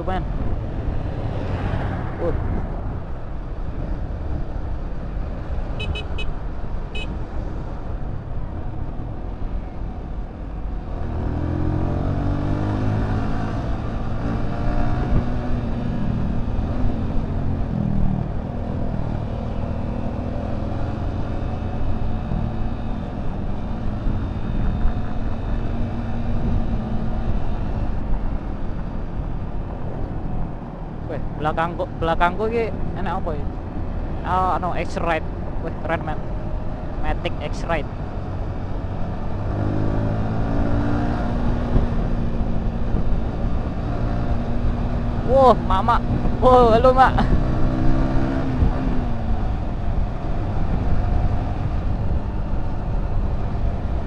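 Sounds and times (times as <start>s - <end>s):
motorcycle engine while riding: 0.0s - 54.0s
wind and road noise: 0.0s - 54.0s.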